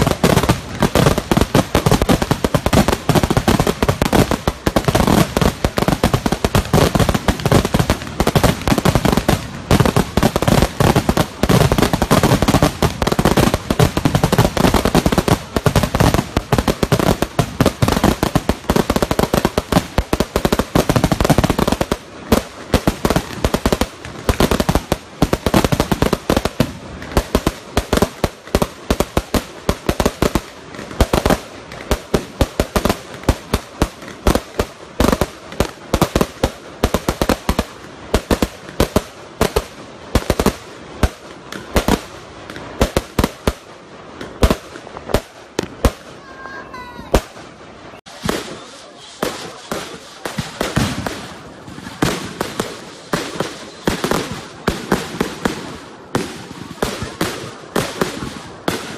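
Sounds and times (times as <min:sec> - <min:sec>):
fireworks crackling: 0:00.0 - 0:58.9
fireworks explosions with deep booms: 0:00.0 - 0:58.9.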